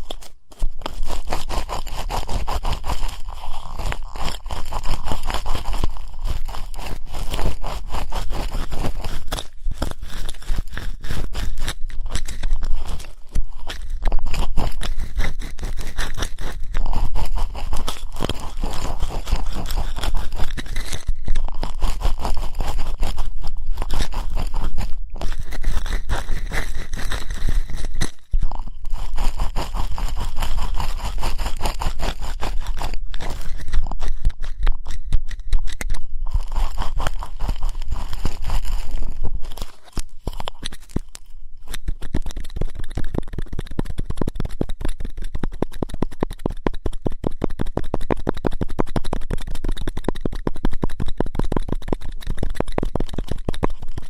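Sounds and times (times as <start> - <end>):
ear pick scraping in ear: 0.0 - 46.3.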